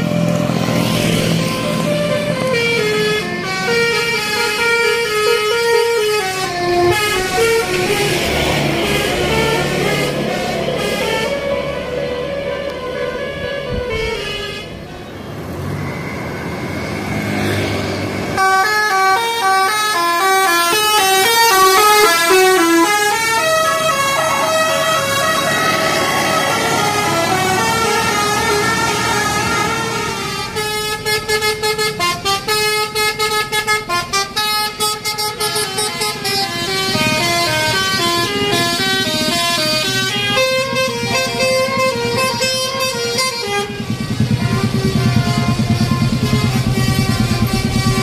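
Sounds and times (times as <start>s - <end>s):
musical bus horn melody: 0.0s - 15.1s, 18.3s - 48.0s
traffic noise: 0.0s - 48.0s.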